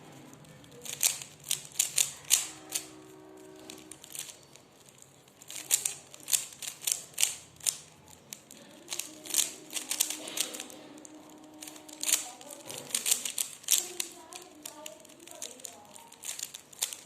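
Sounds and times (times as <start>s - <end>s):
puzzle cube plastic clicking: 0.1s - 2.9s, 3.7s - 17.0s.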